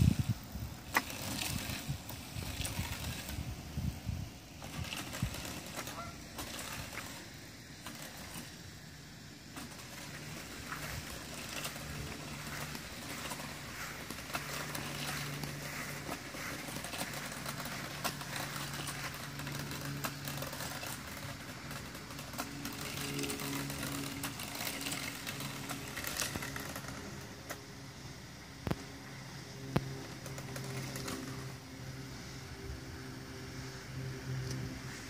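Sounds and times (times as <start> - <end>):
electric motor humming: 0.0 - 35.0.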